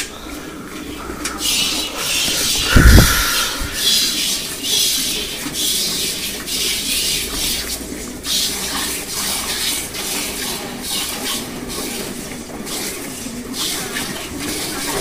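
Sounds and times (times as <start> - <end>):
milk squirting into metal pails: 0.0 - 15.0.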